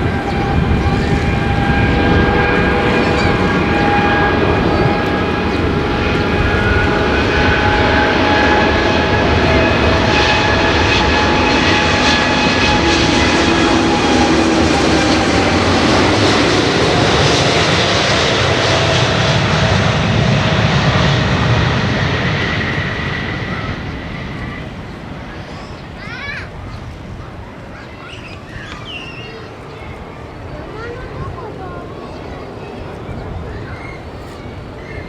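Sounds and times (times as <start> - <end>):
jet engines running loud: 0.0 - 35.0.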